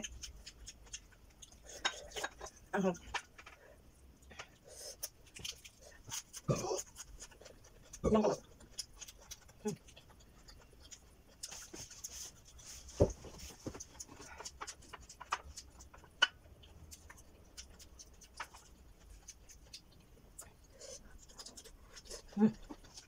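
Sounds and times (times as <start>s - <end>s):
chewing raw vegetables: 0.0s - 3.4s, 4.3s - 23.0s.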